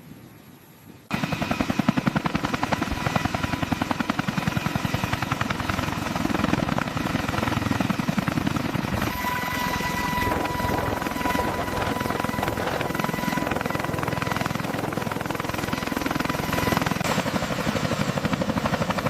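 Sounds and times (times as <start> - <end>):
turbine engine whine: 0.0 - 19.0
helicopter rotor chopping: 1.1 - 19.0.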